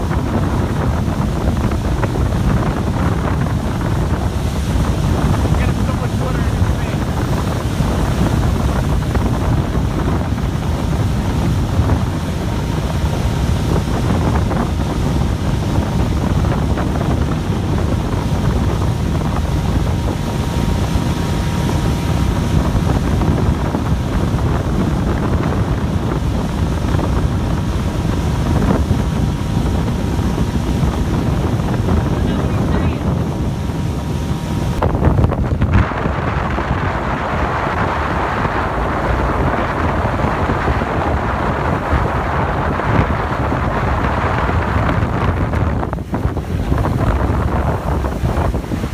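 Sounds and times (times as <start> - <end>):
boat motor: 0.0 - 48.9
rushing water: 0.0 - 48.9
wind buffeting microphone: 0.0 - 48.9.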